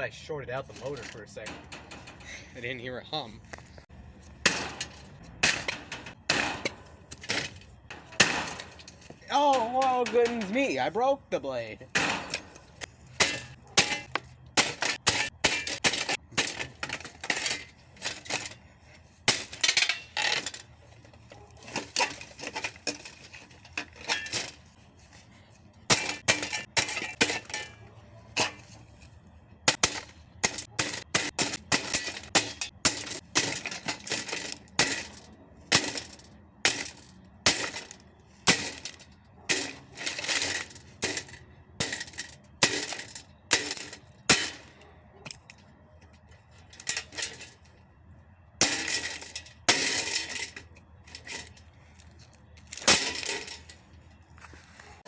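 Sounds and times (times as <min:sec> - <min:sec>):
plastic and metal parts clattering: 0:00.5 - 0:02.5, 0:04.5 - 0:10.8, 0:11.9 - 0:47.9, 0:48.6 - 0:54.2.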